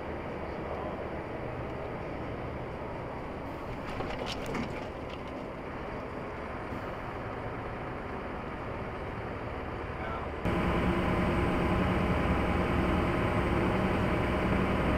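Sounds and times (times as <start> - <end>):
vehicle road and engine noise: 0.0 - 14.9.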